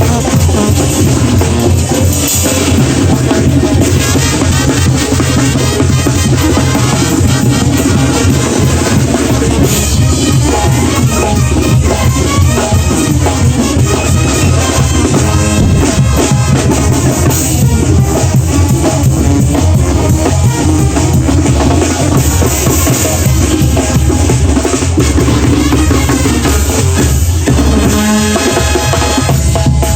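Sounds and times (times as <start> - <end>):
brass band music: 0.0 - 29.9
drum and percussion beat: 0.0 - 29.9.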